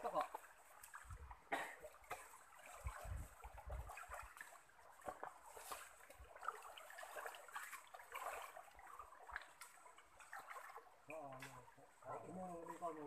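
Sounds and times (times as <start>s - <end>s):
small splashes and clicks: 0.0s - 13.0s
stream trickling: 0.0s - 13.0s.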